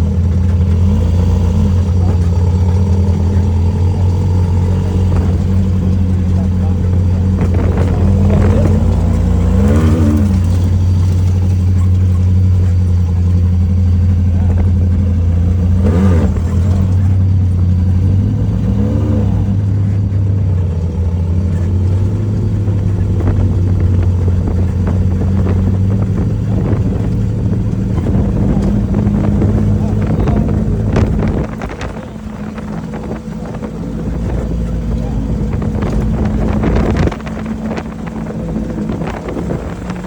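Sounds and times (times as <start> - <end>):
off-road vehicle engine droning: 0.0 - 40.0.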